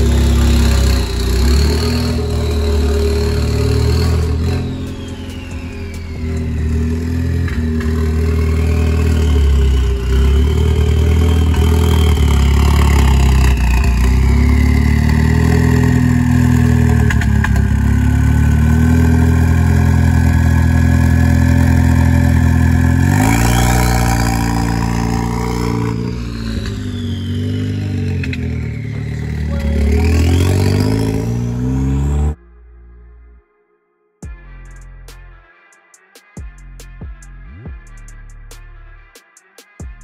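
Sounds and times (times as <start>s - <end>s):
car engine revving: 0.0s - 32.4s.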